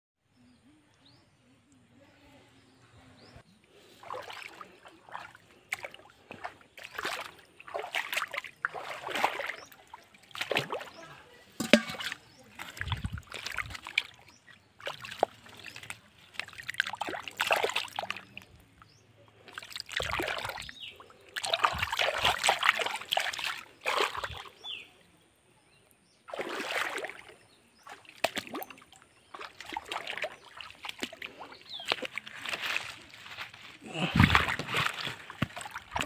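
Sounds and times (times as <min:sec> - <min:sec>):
hand splashing in stream water: 0:03.8 - 0:18.5, 0:19.4 - 0:24.8, 0:26.3 - 0:33.2, 0:33.8 - 0:36.0.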